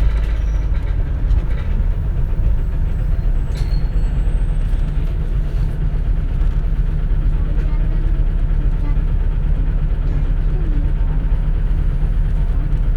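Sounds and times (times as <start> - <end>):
bus engine rumbling: 0.0 - 12.9.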